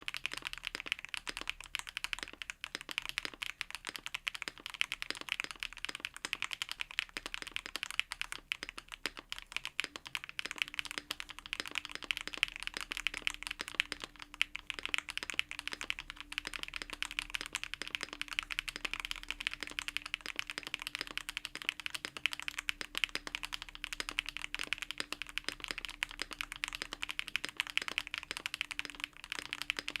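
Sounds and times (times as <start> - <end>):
fast mechanical keyboard typing: 0.0 - 30.0.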